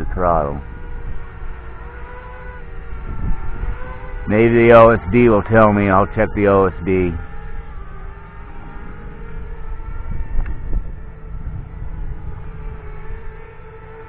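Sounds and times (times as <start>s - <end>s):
quadcopter motors whining: 0.0s - 14.0s
wind rumbling on microphone: 0.0s - 14.0s.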